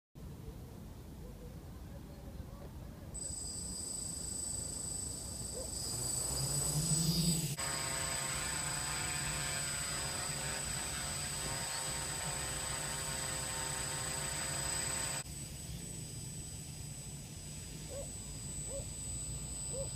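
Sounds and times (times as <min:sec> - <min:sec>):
quadcopter drone buzzing: 0:03.2 - 0:19.9.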